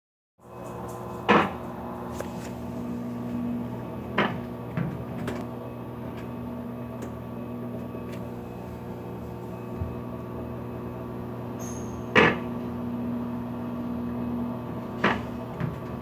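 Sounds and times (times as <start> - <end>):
washing machine humming: 0.4 - 16.0.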